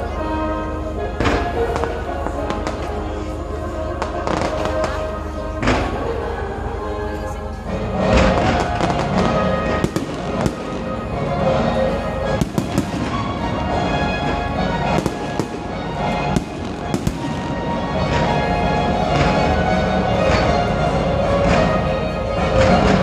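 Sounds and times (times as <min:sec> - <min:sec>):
fireworks bangs and crackling: 0:00.0 - 0:23.0
music playing: 0:00.0 - 0:23.0.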